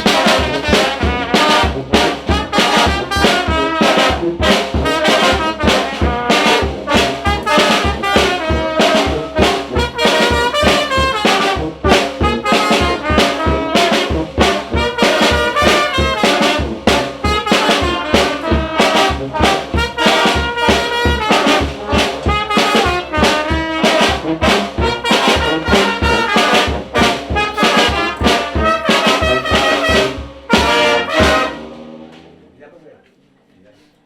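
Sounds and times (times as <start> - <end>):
steady low beat: 0.0 - 32.1
brass band playing: 0.0 - 32.2.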